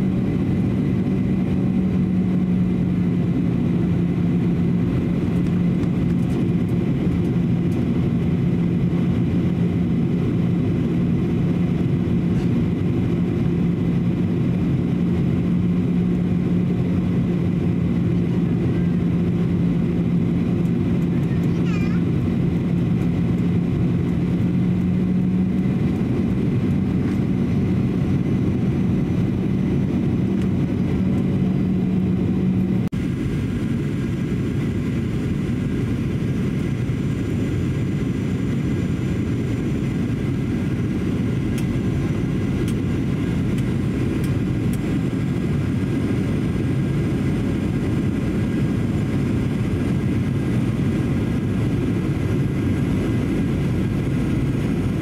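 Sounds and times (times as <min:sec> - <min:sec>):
airflow over fuselage: 0:00.0 - 0:55.0
jet engines heard from cabin: 0:00.0 - 0:55.0.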